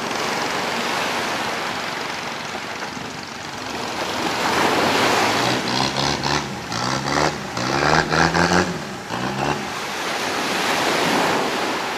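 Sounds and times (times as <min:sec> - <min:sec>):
breaking surf: 0:00.0 - 0:11.9
boat engine revving: 0:00.1 - 0:11.9.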